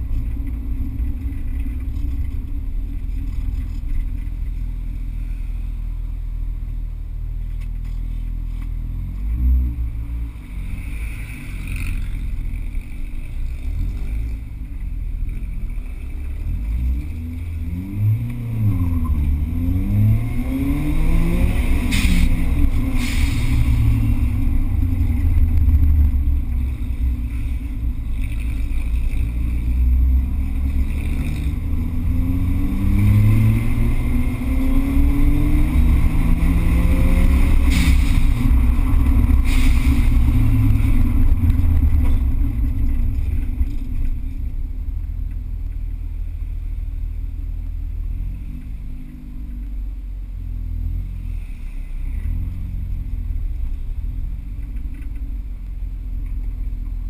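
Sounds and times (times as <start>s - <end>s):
road noise: 0.0s - 57.0s
car engine accelerating: 7.6s - 57.0s.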